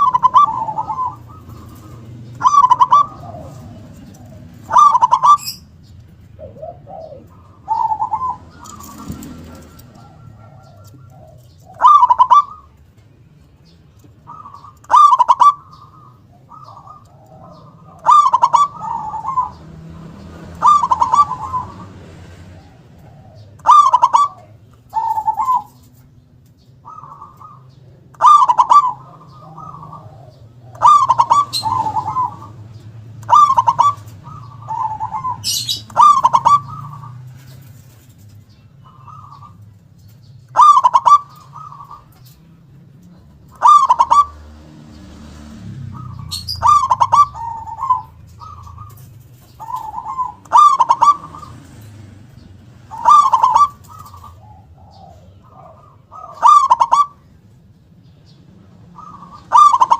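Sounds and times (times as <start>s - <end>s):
dove cooing: 0.0s - 59.9s.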